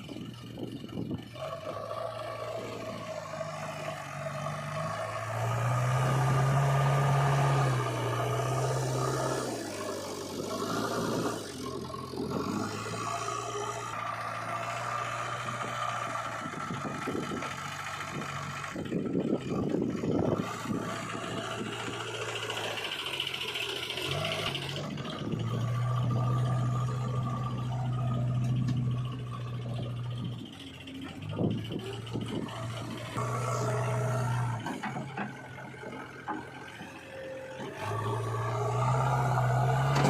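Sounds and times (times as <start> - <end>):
diesel engines running: 0.0 - 40.0
rough engine clattering: 0.0 - 40.0.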